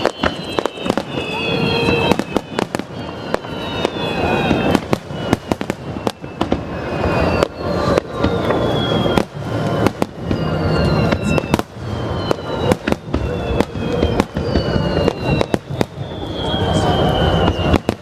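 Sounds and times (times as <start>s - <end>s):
fireworks bangs and crackles: 0.0s - 18.0s
fireworks whistling: 0.0s - 18.0s.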